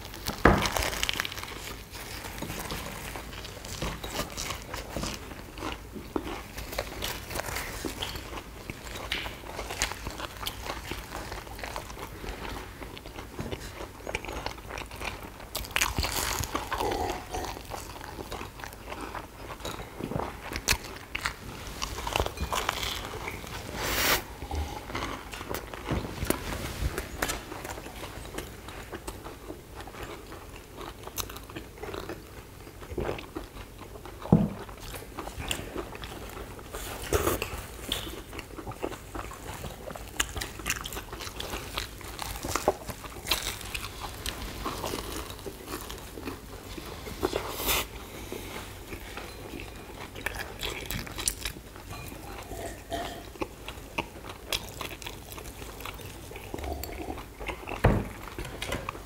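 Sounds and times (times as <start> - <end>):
crunchy biting and chewing: 0.0 - 59.0.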